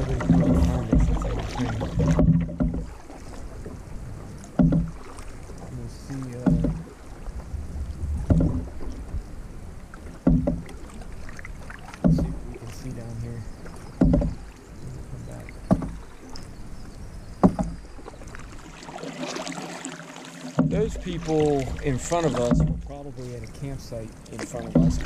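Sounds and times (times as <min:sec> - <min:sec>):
paddle strokes splashing in water: 0:00.0 - 0:16.6, 0:17.3 - 0:25.0
low wash of water: 0:00.0 - 0:25.0.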